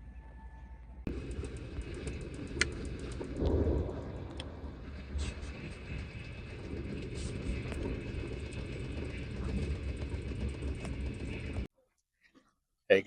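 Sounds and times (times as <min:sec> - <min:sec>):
train rumbling: 0:00.0 - 0:11.7
rattling and clicks: 0:01.1 - 0:11.7.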